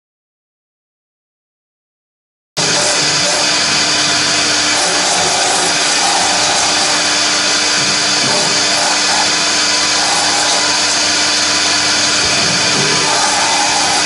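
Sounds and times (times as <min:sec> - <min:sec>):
router spindle milling foam: 0:02.6 - 0:14.0.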